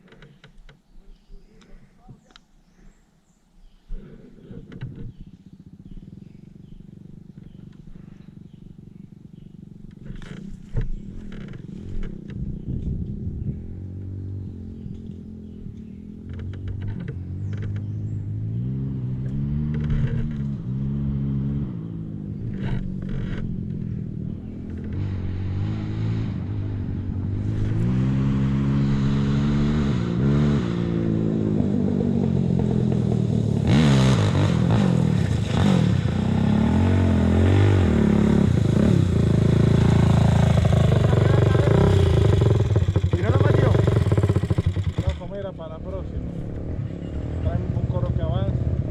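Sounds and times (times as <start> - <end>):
dirt bike engine revving: 5.4 - 48.9.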